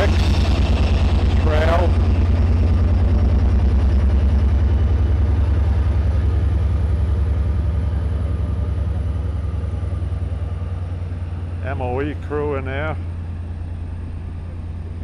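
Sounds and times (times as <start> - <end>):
diesel locomotive engine throbbing: 0.0 - 15.0.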